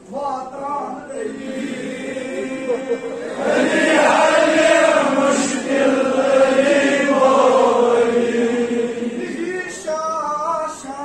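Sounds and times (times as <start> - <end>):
men chanting in unison: 1.1 - 10.0.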